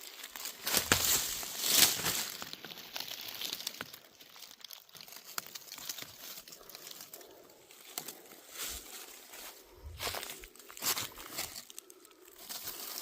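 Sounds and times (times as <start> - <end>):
dry leaves crackling and rustling: 0.0 - 13.0.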